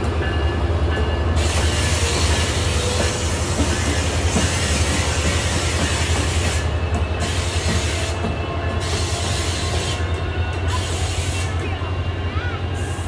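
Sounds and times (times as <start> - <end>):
diesel locomotive engines running: 0.0 - 13.0
wheel and rail noise: 0.0 - 13.0.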